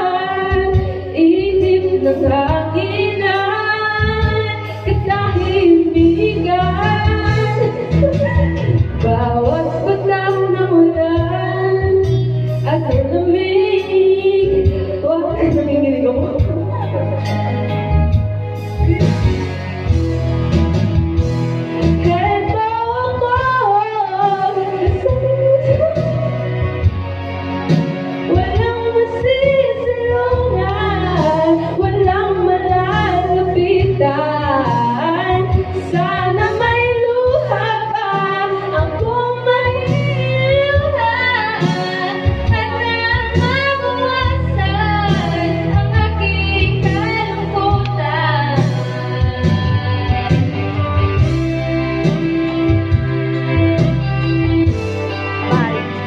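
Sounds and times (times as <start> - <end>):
girl singing into microphone: 0.0 - 17.4, 22.0 - 26.9, 28.3 - 51.6
backing track with bass: 0.0 - 56.0.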